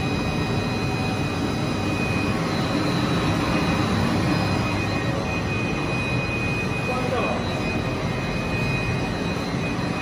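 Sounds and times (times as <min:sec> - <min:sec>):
machine running with high whine: 0:00.0 - 0:10.0.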